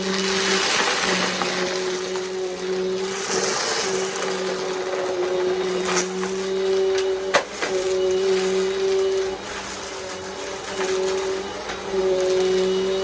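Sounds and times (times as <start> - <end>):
debris clicking in vacuum: 0.0 - 13.0
vacuum cleaner running: 0.0 - 13.0.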